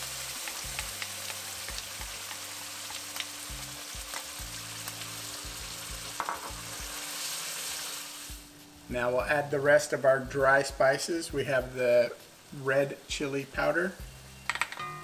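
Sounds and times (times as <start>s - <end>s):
puree sizzling in hot pan: 0.0s - 14.7s.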